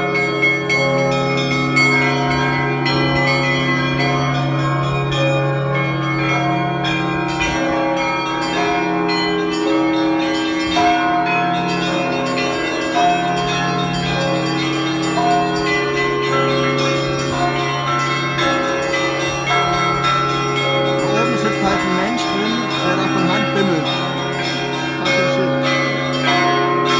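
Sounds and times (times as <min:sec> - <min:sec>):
higher church bells ringing: 0:00.0 - 0:26.9.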